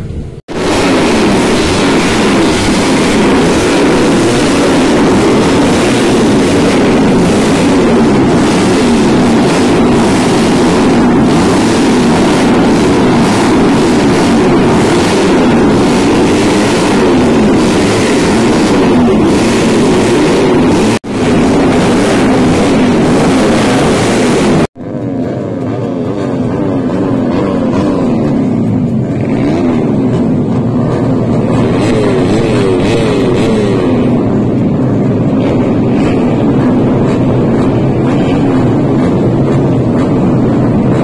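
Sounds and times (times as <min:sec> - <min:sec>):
racing motorcycle engines revving: 0:00.0 - 0:41.0.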